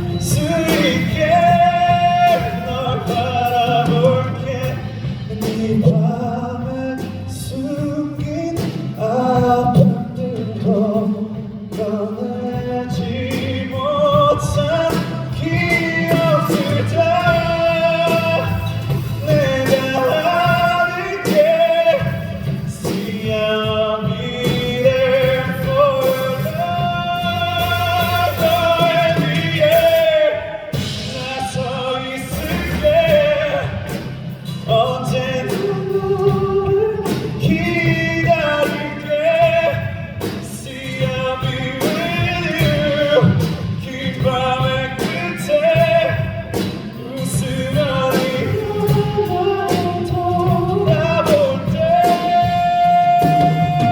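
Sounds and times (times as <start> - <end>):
band accompaniment: 0.0 - 53.9
man singing a ballad: 0.0 - 53.9.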